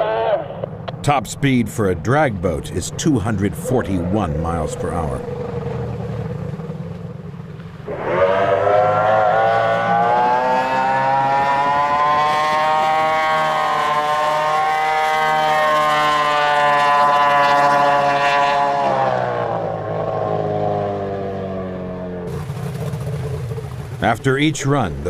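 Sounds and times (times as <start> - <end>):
powerboat engine at full throttle: 1.0 - 25.0.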